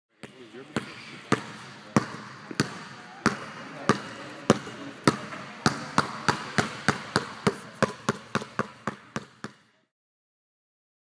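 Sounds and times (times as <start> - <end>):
basketball bouncing on hard floor: 0.2 - 9.6.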